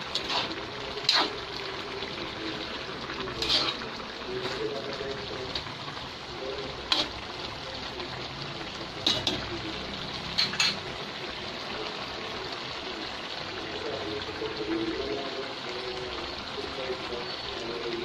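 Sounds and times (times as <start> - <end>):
pot bubbling on a simmer: 0.0 - 18.0.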